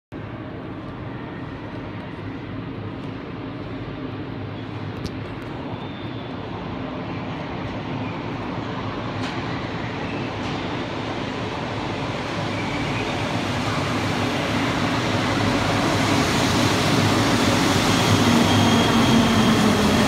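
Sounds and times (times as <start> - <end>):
metro train rumble in tunnel: 0.1 - 20.0.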